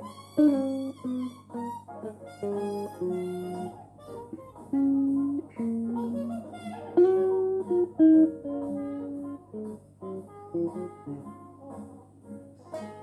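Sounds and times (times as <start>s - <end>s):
electric guitar single-note melody: 0.0s - 13.0s.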